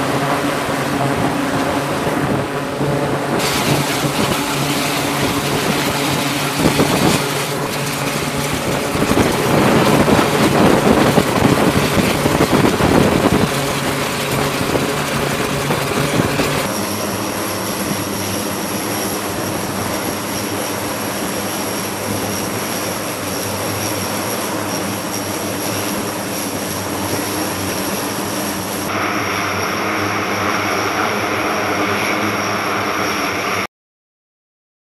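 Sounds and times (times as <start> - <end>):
thin high whine: 0.0 - 33.7
turboprop engines droning: 0.0 - 33.7.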